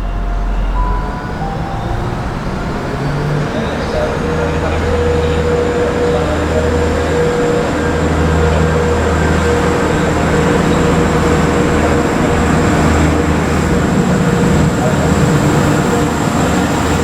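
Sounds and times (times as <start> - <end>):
diesel train engine running: 0.0 - 17.0.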